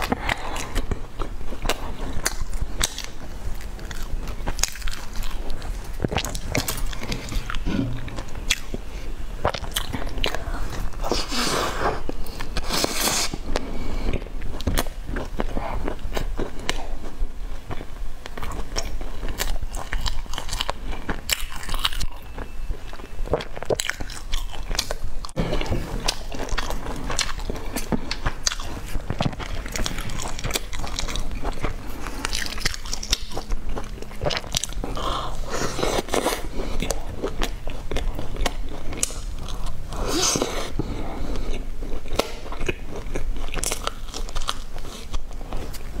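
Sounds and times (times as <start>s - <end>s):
biting and chewing cake: 0.0s - 46.0s.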